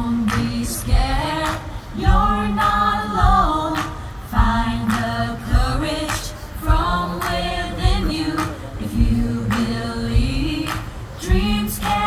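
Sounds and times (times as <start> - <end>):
low drum beat: 0.0 - 12.0
voices singing held lines: 0.0 - 12.0.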